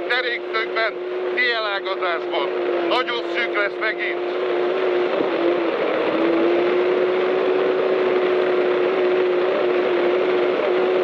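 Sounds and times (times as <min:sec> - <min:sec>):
engine running at high revs: 0:00.0 - 0:11.0
road and wind noise: 0:00.0 - 0:11.0.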